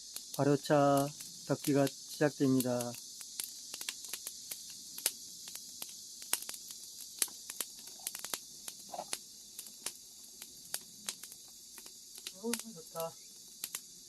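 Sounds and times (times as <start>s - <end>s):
crickets chirring: 0.0s - 14.0s
wood fire crackling and popping: 0.0s - 14.0s.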